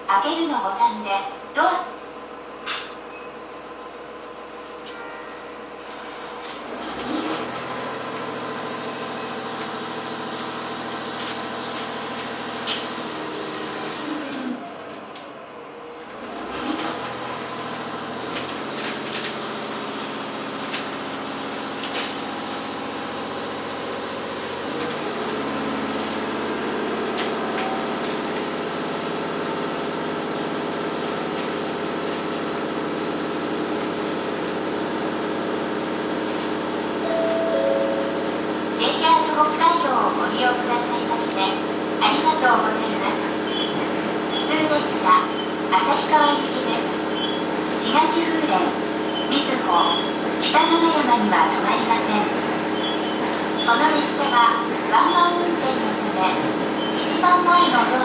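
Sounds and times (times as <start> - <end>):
railcar engine humming: 0.0 - 18.8, 19.4 - 58.0.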